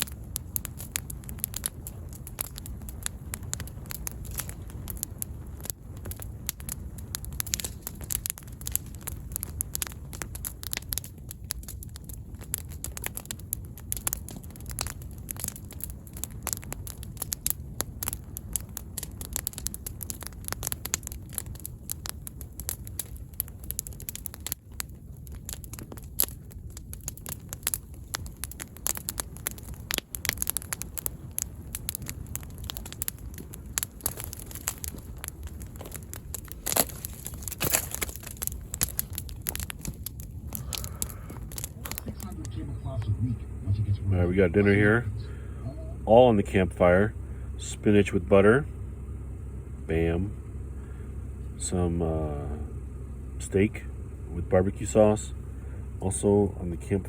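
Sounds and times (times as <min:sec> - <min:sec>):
campfire crackling and popping: 0:00.0 - 0:57.0
low steady rumble: 0:00.0 - 0:57.0.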